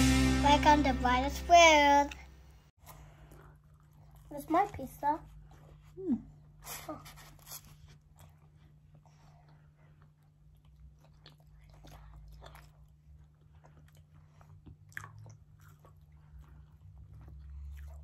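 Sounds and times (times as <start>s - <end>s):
people chewing pizza: 2.8s - 18.0s.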